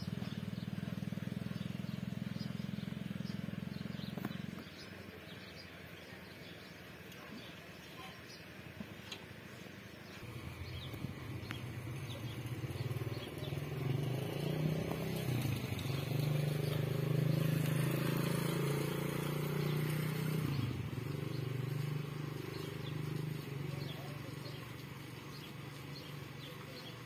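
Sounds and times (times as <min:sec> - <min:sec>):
motor engine humming: 0:00.0 - 0:05.7, 0:10.2 - 0:27.0.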